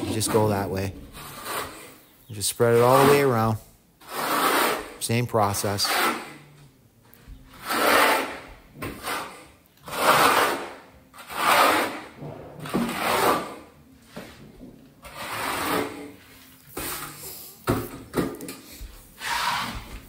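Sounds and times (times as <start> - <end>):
trowel scraping mortar on wall: 0.0 - 6.6, 7.5 - 14.4, 15.0 - 17.3, 19.2 - 20.0.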